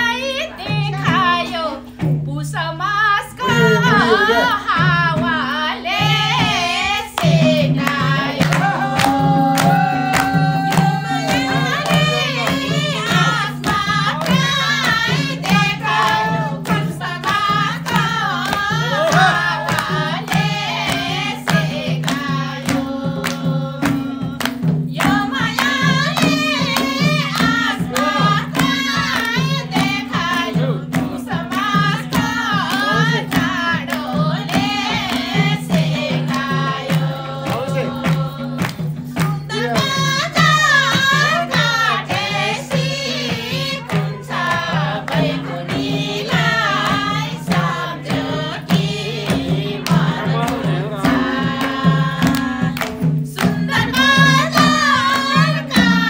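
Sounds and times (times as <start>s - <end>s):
percussion beat: 0.0s - 56.0s
voices singing folk song: 0.0s - 56.0s.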